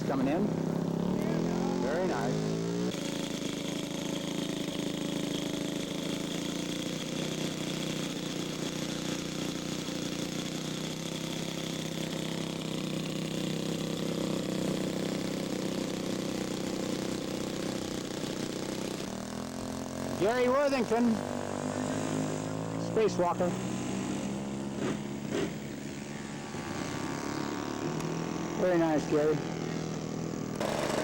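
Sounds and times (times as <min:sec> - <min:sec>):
model aircraft engine running: 0:00.0 - 0:31.0.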